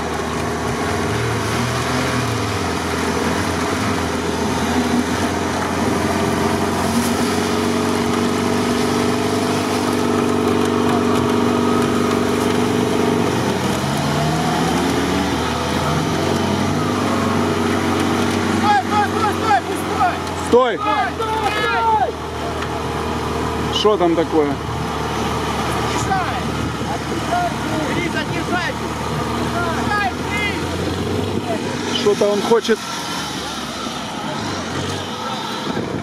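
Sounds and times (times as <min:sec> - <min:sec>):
car engine running hard: 0:00.0 - 0:36.0.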